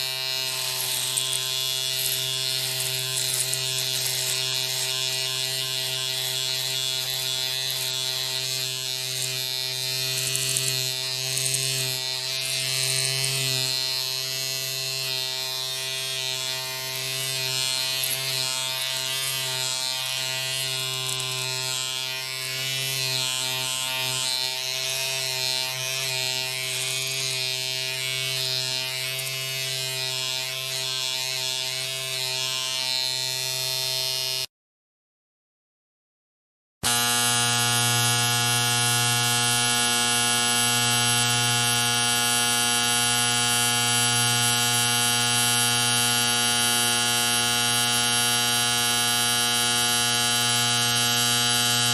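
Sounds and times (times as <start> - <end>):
electric hair clippers buzzing: 0.0 - 34.5, 36.8 - 51.9.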